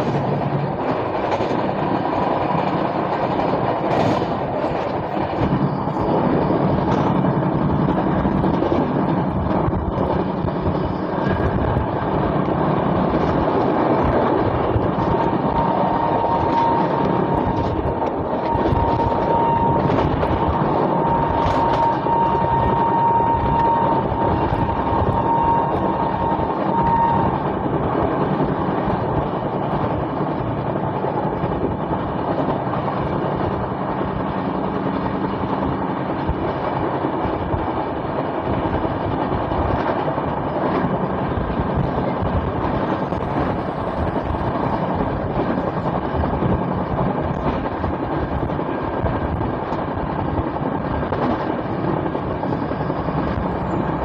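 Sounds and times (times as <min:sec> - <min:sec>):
rushing air: 0:00.0 - 0:54.0
train wheels rumbling on rail: 0:00.0 - 0:54.0.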